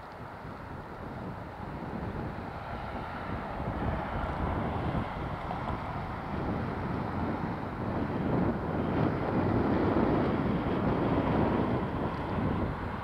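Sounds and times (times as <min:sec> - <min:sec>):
distant highway traffic hum: 0:00.0 - 0:13.0
wind on microphone: 0:00.0 - 0:13.0.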